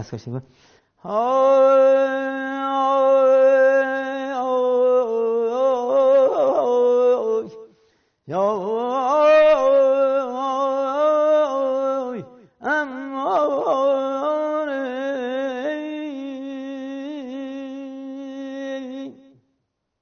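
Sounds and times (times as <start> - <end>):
man singing unaccompanied: 1.0 - 19.4.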